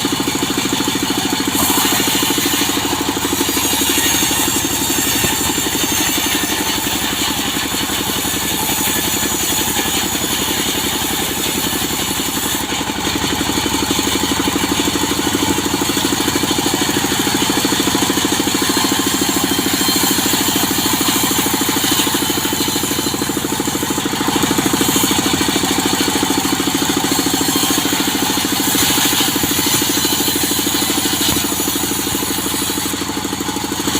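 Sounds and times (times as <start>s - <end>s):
engine-driven saw cutting wood: 0.0s - 33.9s.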